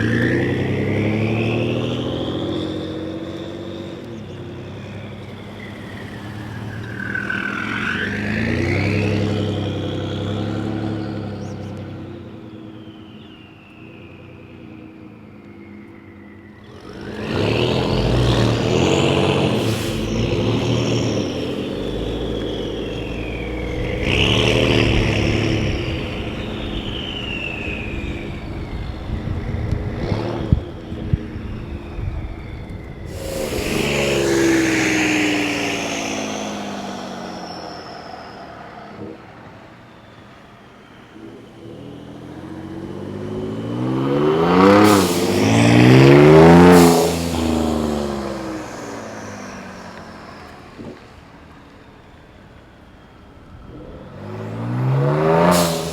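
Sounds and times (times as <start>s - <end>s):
truck engine revving: 0.0s - 13.0s, 16.5s - 55.9s
turbo whistle rising in pitch: 0.0s - 55.9s.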